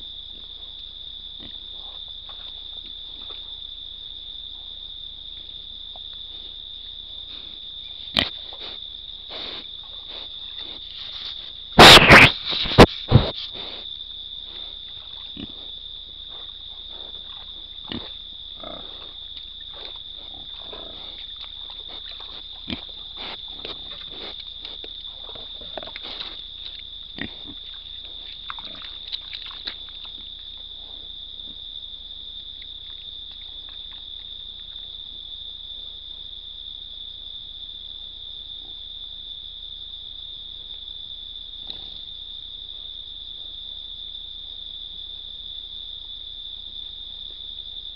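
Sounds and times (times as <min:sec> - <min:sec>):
crickets chirping: 0:00.0 - 0:47.9
hogs snuffling and grunting: 0:00.0 - 0:47.9.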